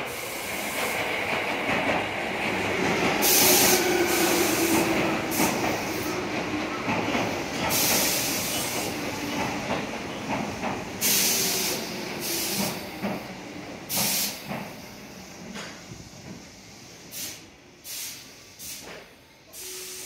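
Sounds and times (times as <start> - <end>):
train wheels rumbling on rails: 0.0 - 19.8.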